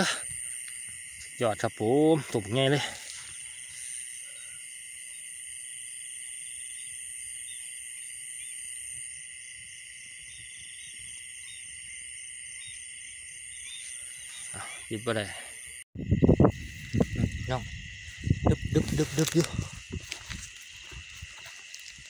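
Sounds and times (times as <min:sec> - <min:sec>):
crickets and insects trilling: 0:00.0 - 0:22.0.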